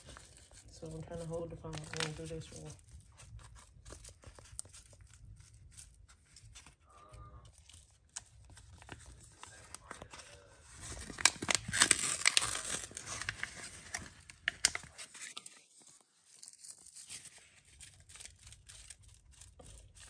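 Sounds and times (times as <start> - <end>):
paper packet crinkling: 0.0 - 20.0.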